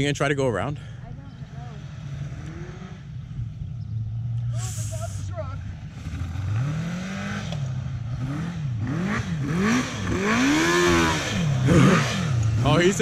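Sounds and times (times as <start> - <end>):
quad engine revving: 1.5 - 3.4, 4.2 - 13.0.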